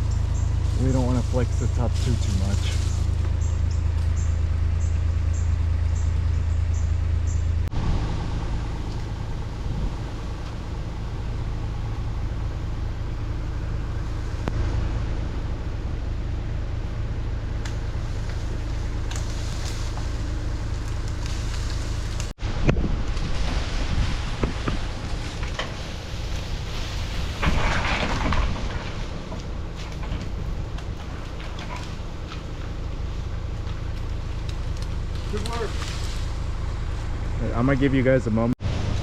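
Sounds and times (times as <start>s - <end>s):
loader engine running: 0.0s - 39.0s.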